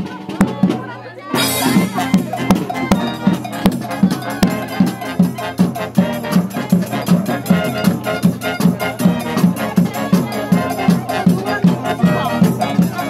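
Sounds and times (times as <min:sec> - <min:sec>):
marching band with brass and drums: 0:00.0 - 0:13.0.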